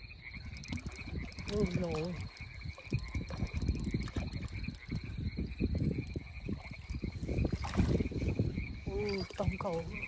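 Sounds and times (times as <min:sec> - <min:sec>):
frogs calling in chorus: 0:00.0 - 0:10.0.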